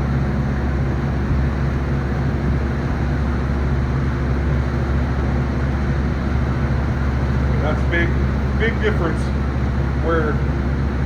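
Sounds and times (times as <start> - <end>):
large fan running: 0.0 - 11.0.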